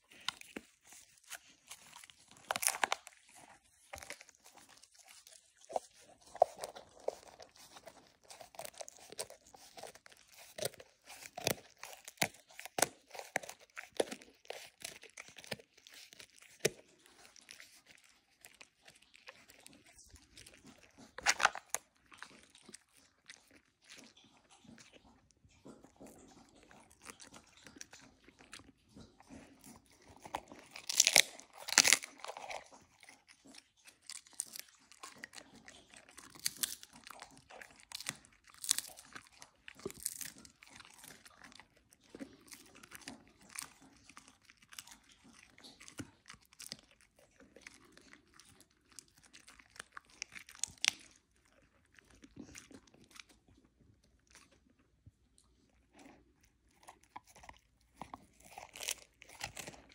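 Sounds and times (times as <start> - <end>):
dog chewing crunchy treat: 0.0 - 59.9.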